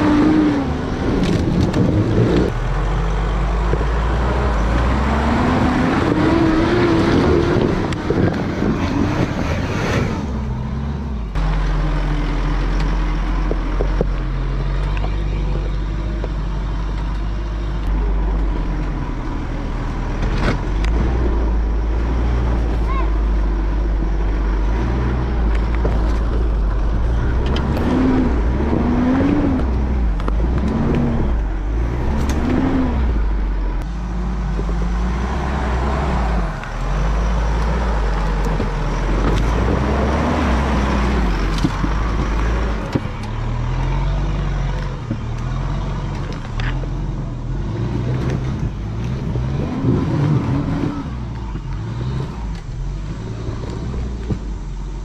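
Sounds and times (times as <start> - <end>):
diesel engine revving under load: 0.0 - 55.0.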